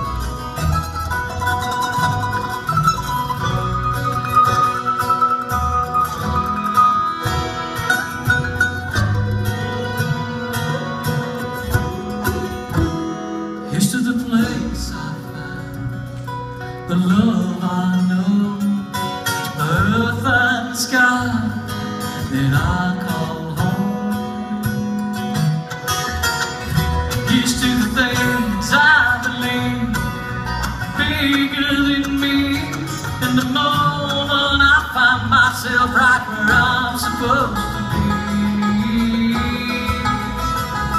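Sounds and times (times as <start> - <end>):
bluegrass band playing: 0.0 - 40.9.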